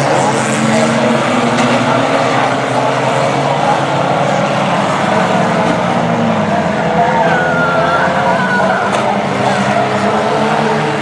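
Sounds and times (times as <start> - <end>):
racing car engines droning: 0.0 - 11.0.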